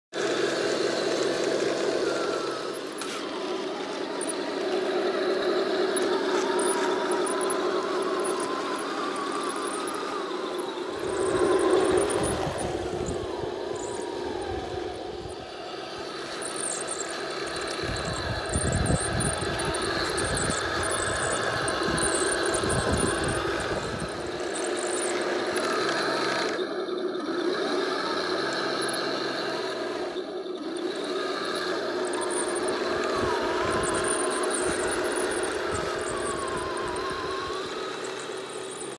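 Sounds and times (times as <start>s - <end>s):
toy tank motor whining: 0.2s - 38.9s.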